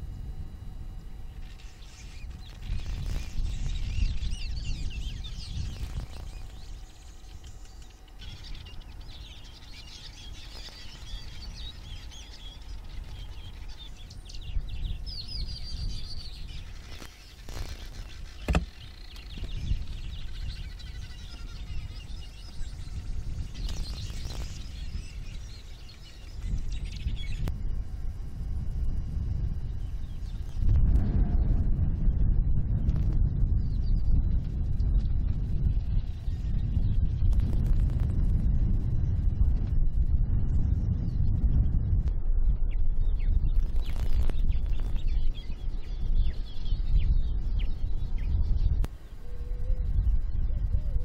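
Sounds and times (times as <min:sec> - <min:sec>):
wind rumble on microphone: 0:00.0 - 0:51.0
small birds chirping: 0:01.3 - 0:31.0, 0:31.9 - 0:51.0.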